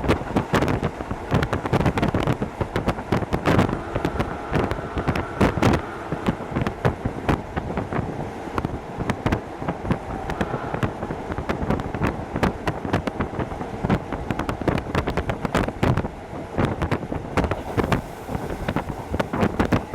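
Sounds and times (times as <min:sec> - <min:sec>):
train running rumble: 0:00.0 - 0:19.9.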